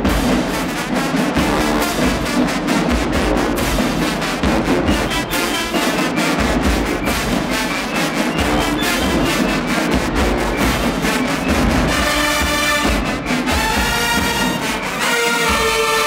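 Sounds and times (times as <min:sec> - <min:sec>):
marching band brass tune: 0:00.0 - 0:16.0.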